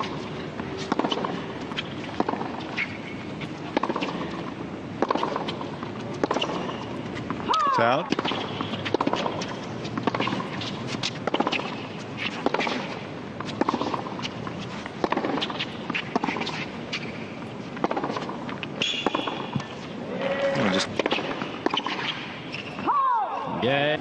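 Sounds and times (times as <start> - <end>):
tennis ball struck by racquets: 0.0 - 19.9, 20.7 - 22.9.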